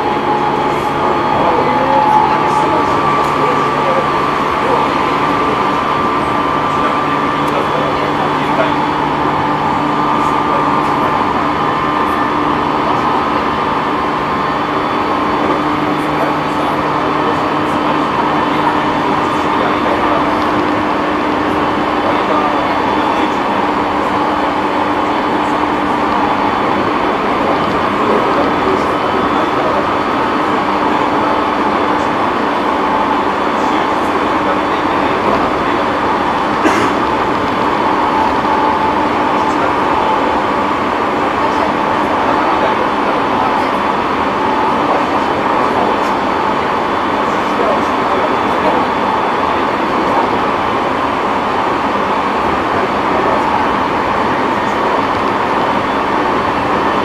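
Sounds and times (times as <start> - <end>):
faint hum: 0.0 - 57.0
train wheels rushing on rail: 0.0 - 57.0.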